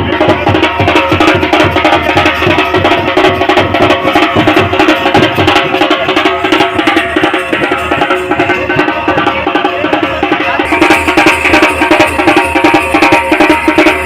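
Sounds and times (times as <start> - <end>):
fast dense drumming: 0.0 - 14.0.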